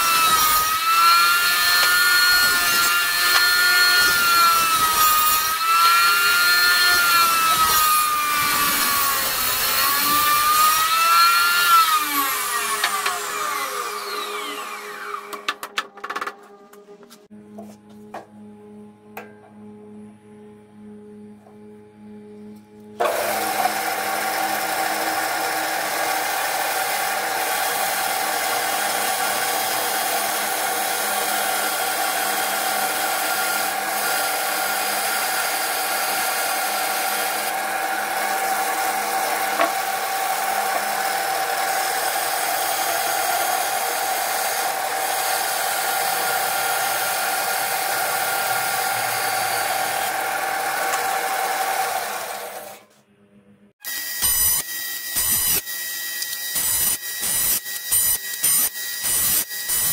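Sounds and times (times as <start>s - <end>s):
band saw cutting wood: 0.0s - 15.7s, 22.8s - 52.9s, 53.8s - 59.9s.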